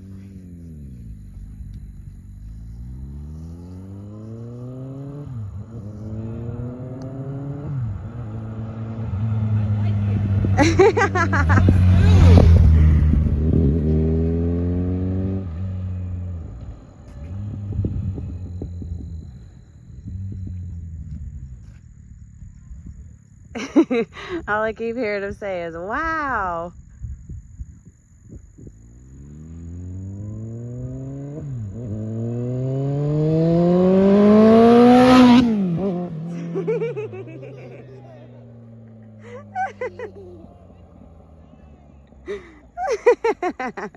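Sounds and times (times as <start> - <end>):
motorcycle engine accelerating: 0.0 - 25.3, 26.7 - 43.9.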